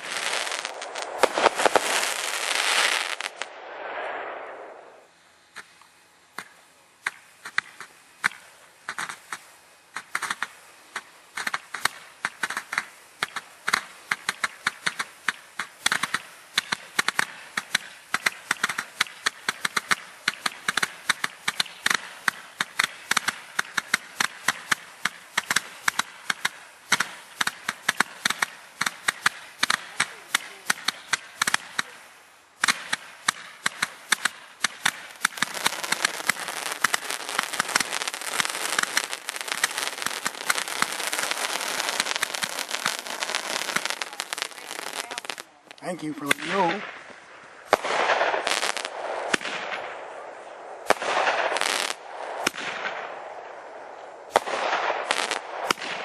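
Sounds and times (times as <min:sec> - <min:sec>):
fireworks crackling pops: 0:00.0 - 0:56.0.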